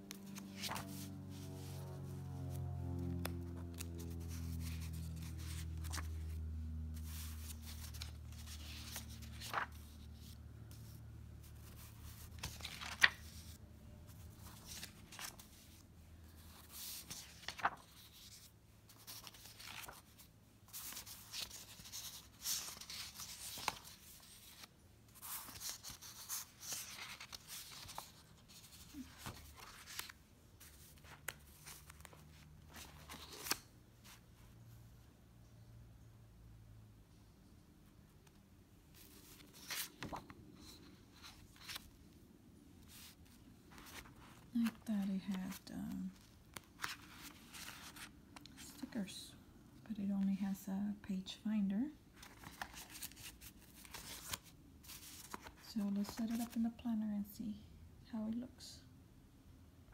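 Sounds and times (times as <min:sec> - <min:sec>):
paper pages rustling: 0:00.0 - 0:34.2, 0:38.2 - 0:42.1, 0:42.8 - 0:48.9, 0:52.2 - 0:56.6
low steady hum: 0:00.0 - 0:59.9.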